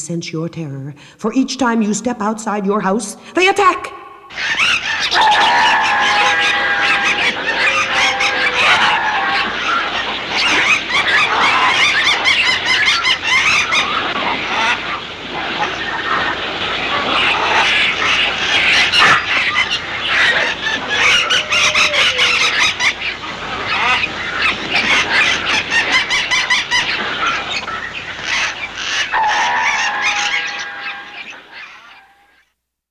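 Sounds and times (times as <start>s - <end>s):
flock of birds calling: 4.3s - 32.4s.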